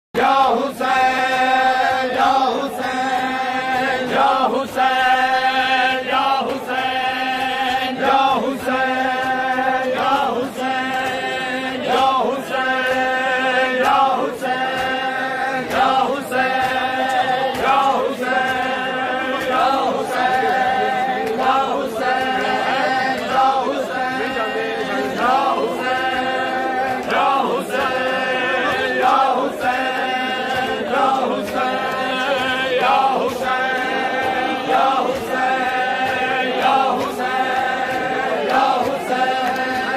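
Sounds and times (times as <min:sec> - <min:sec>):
men chanting in unison: 0:00.2 - 0:39.9.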